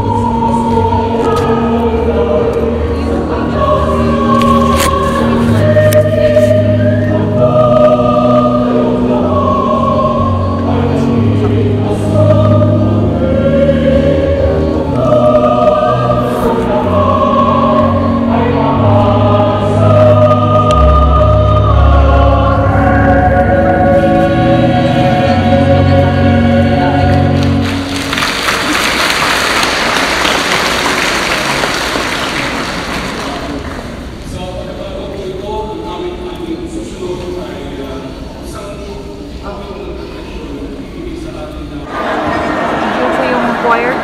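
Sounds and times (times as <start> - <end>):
choir singing a hymn: 0.0 - 33.7, 34.3 - 44.0.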